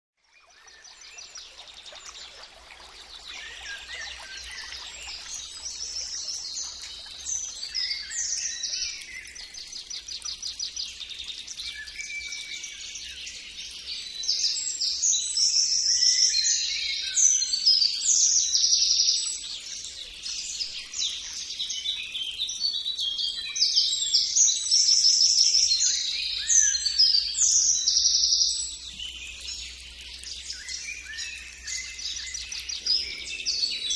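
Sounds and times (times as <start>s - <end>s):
birds chirping and trilling: 0.3s - 33.9s.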